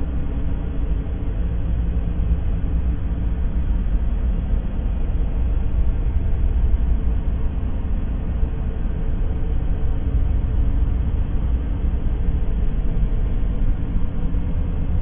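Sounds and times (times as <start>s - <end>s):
deep bass continuous noise: 0.0s - 15.0s.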